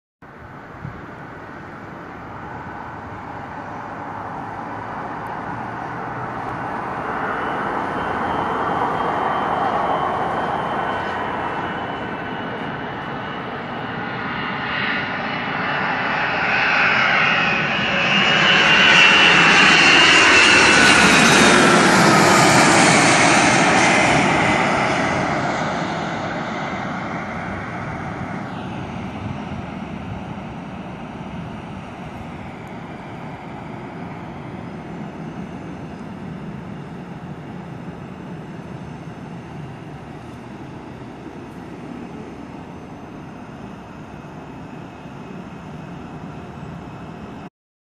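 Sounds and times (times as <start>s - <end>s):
jet engines passing low: 0.3s - 47.5s.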